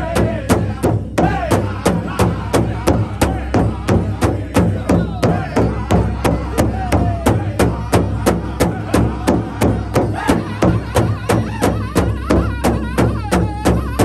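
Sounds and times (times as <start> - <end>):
high wavering group singing: 0.0 - 14.0
large hide drum beating: 0.0 - 14.0.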